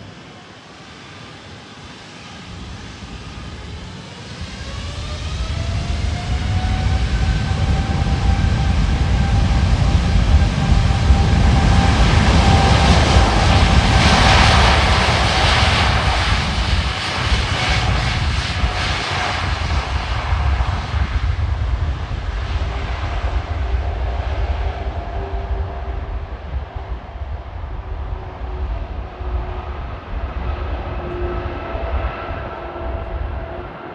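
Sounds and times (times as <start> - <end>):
jet airliner passing: 0.0 - 33.9.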